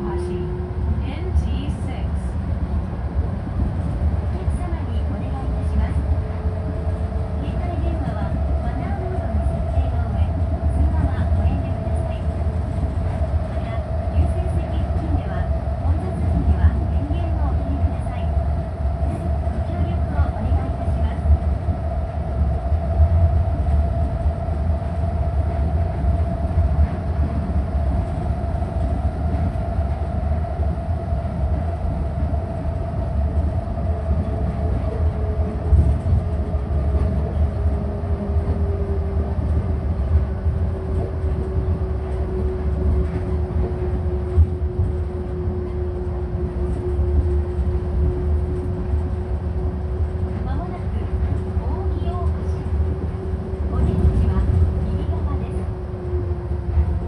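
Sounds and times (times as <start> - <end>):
tyres rumbling on concrete track: 0.0 - 57.0.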